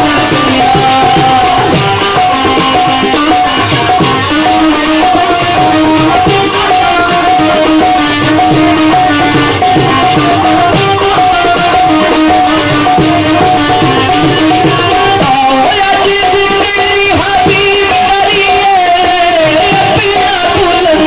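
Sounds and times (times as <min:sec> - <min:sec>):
hand drum strokes: 0:00.0 - 0:18.6
harmonium melody: 0:00.0 - 0:21.0
plucked string instruments: 0:00.0 - 0:21.0.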